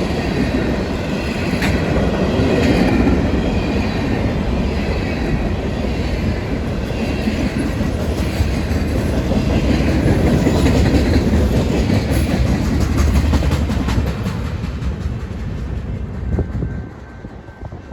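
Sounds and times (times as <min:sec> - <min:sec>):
freight train wheels on rails: 0:00.0 - 0:17.9.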